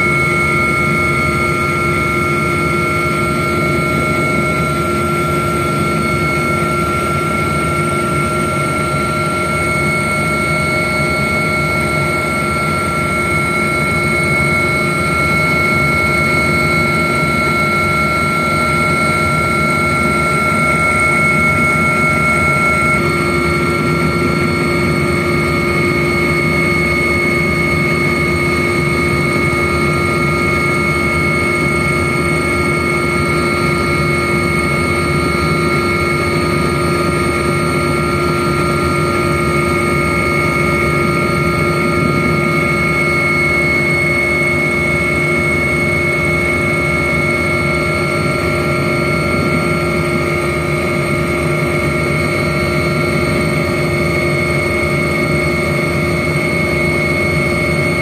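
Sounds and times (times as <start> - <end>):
aircraft engine rumble: 0.0 - 58.0
steady whining tones: 0.0 - 58.0.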